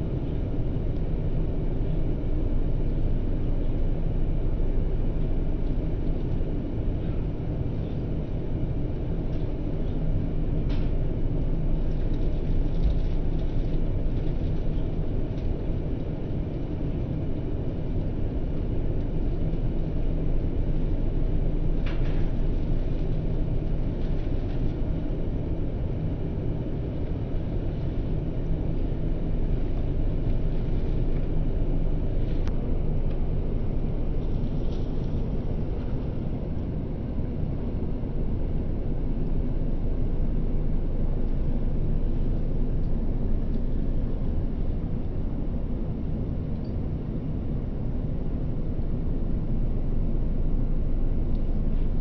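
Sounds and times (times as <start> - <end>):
airliner cabin engine rumble: 0.0 - 52.0.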